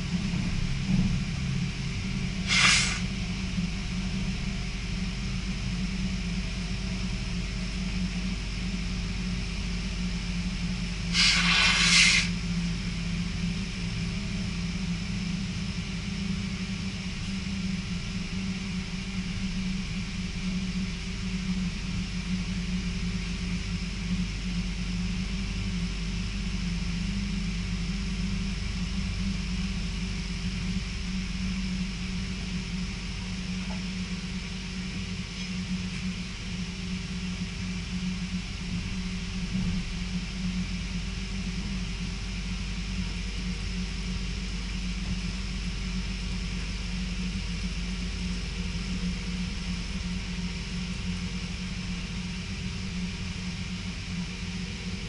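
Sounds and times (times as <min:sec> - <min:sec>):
constant low hum: 0:00.0 - 0:55.0
train rumble inside carriage: 0:00.0 - 0:55.0.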